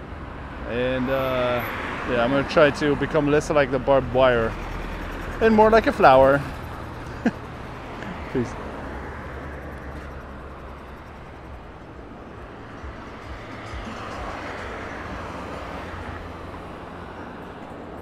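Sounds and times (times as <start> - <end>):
passing cars: 0.0 - 18.0.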